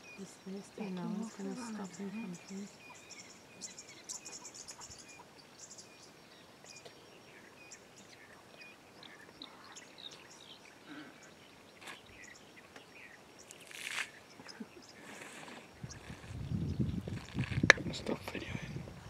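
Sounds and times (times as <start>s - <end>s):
birds chirping and trilling: 0.0s - 18.9s
steady background hiss: 0.0s - 19.0s.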